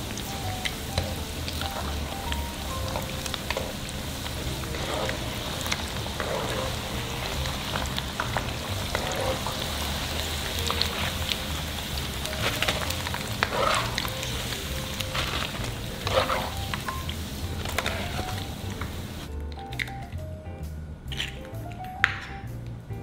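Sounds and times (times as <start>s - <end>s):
fish deep-frying in sizzling oil: 0.0s - 19.3s.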